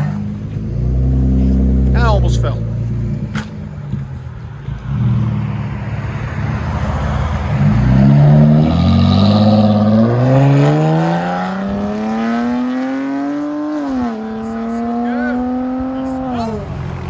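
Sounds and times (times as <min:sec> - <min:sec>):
car exhaust rumbling: 0:00.0 - 0:13.3, 0:13.9 - 0:17.0
car accelerating: 0:00.0 - 0:17.0.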